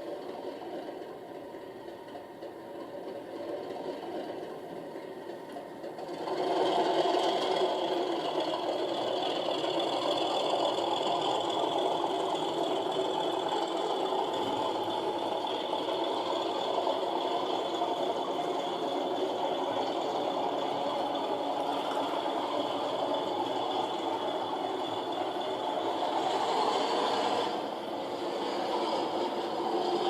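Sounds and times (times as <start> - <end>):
model diesel engine sound: 0.0 - 30.0.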